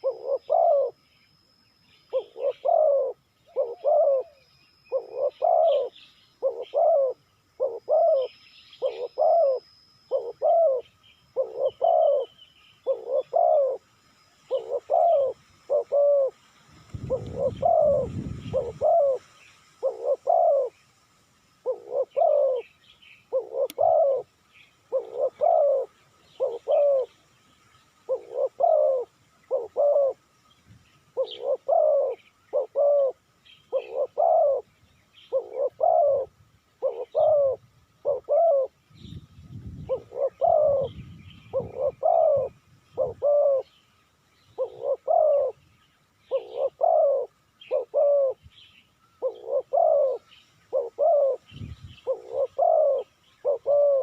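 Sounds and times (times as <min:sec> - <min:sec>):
dove cooing: 0:00.0 - 0:01.0, 0:02.1 - 0:20.8, 0:21.6 - 0:27.2, 0:28.0 - 0:30.2, 0:31.1 - 0:39.2, 0:39.8 - 0:43.8, 0:44.5 - 0:45.6, 0:46.2 - 0:48.5, 0:49.1 - 0:54.0
small birds chirping: 0:00.0 - 0:54.0.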